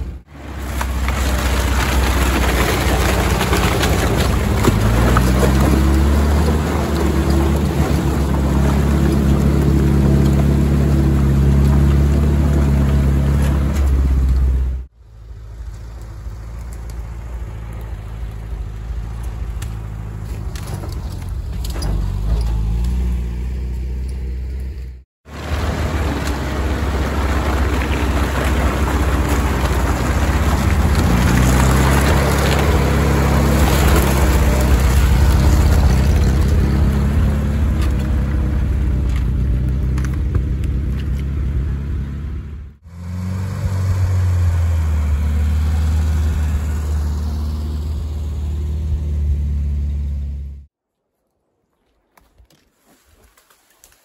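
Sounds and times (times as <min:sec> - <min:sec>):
petrol engine revving under load: 0:00.0 - 0:50.7.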